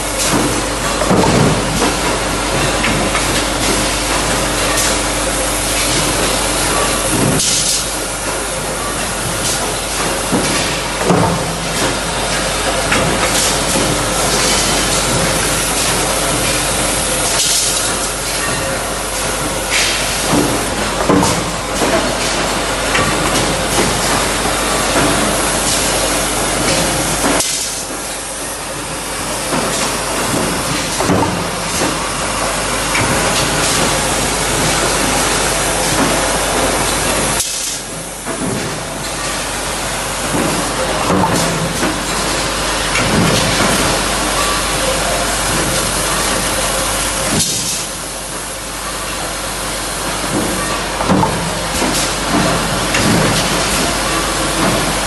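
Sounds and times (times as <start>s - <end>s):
running machinery: 0.0s - 55.0s.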